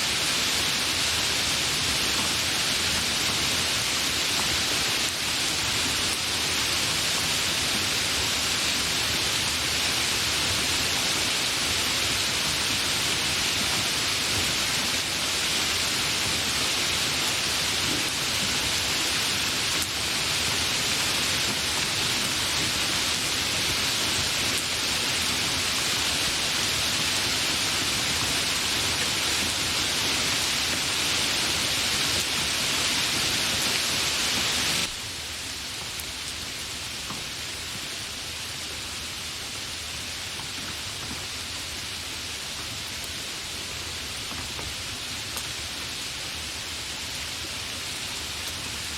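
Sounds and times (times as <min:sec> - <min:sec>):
rain hissing: 0:00.0 - 0:48.9.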